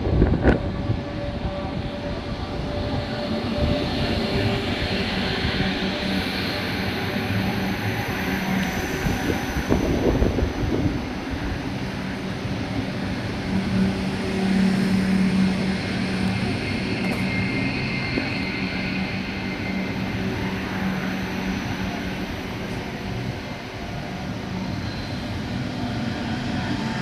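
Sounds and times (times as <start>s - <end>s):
electric train whining: 0.0s - 27.0s
train rolling noise: 0.0s - 27.0s.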